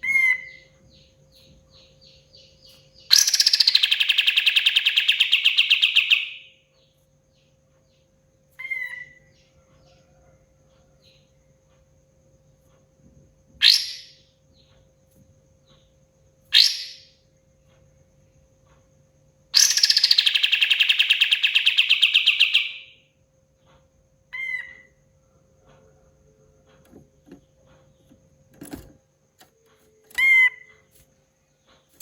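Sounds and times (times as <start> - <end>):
songbird calling and trilling: 0.0 - 11.5, 13.6 - 17.8, 19.4 - 25.9, 26.6 - 32.0.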